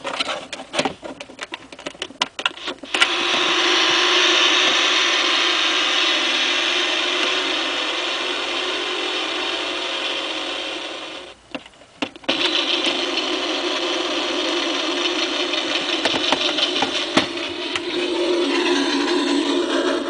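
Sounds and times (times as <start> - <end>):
tractor engine through small speaker: 2.6 - 11.4, 12.3 - 20.0.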